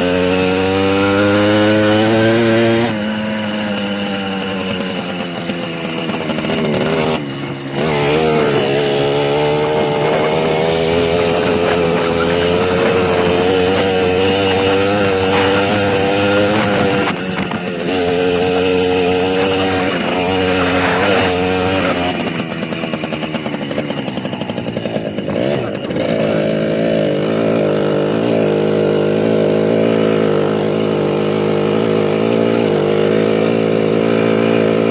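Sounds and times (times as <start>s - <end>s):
small motorcycle engine revving: 0.0s - 34.9s.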